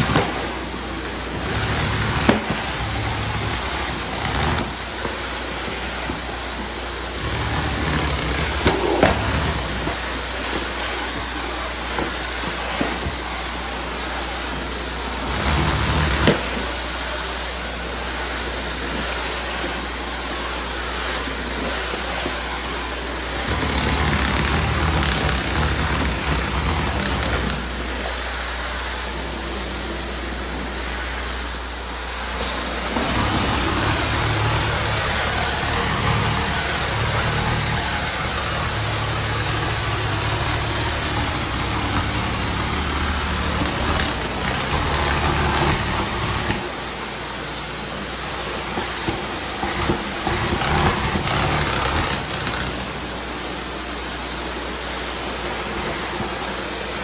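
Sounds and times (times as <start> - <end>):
extraction equipment vacuum noise: 0.0 - 57.0.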